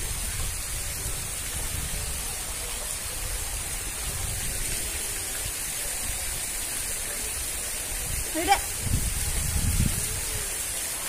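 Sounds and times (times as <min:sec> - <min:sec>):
falling spraying water: 0:00.0 - 0:11.0.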